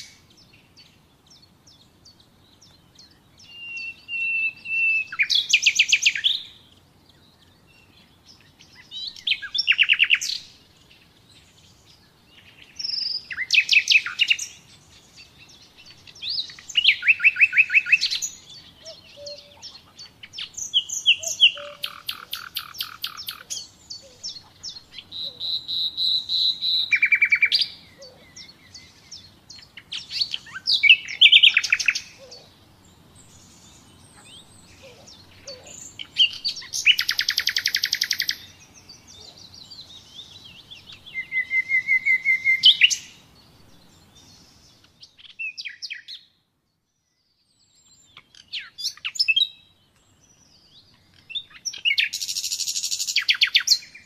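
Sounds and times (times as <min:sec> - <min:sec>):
nightingale singing: 0:00.0 - 0:54.0.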